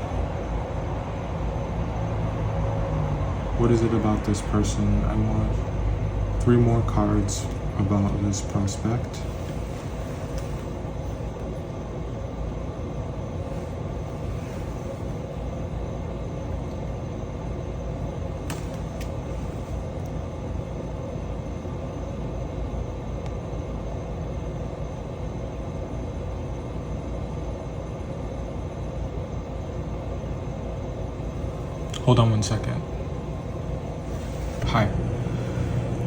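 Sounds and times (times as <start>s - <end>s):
faint hum: 0.0s - 36.0s
low background rumble: 0.0s - 36.0s.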